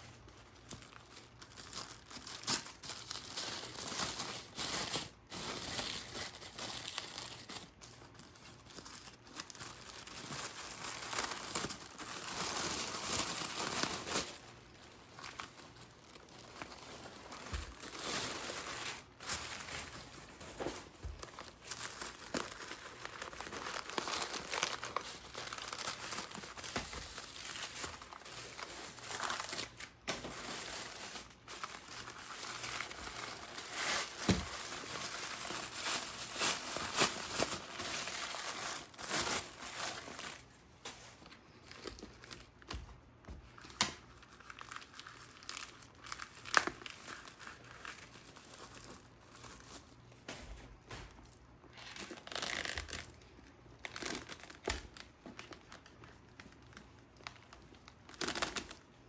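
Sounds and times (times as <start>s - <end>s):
wrapping material crinkling: 0.0s - 59.0s.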